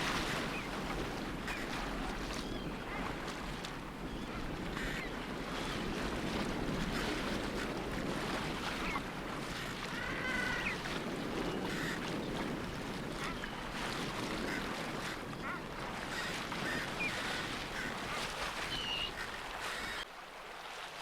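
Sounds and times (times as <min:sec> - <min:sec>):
wind and sea water rushing: 0:00.0 - 0:21.0.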